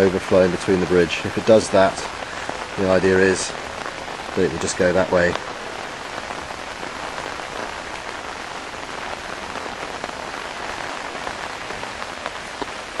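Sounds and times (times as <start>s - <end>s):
rain on a flooded road: 0.0s - 13.0s.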